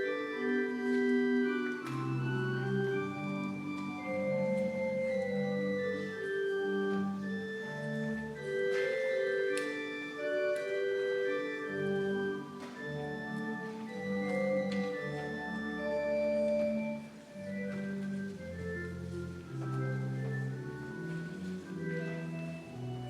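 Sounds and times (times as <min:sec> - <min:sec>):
organ playing slow chords: 0:00.0 - 0:23.0.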